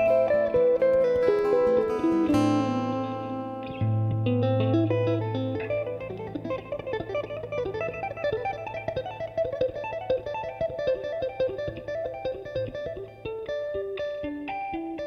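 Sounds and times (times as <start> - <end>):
electric guitar tapping solo: 0.0 - 15.0.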